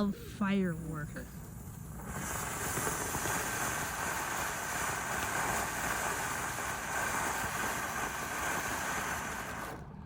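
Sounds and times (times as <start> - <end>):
firework fountain hissing: 0.0 - 10.0.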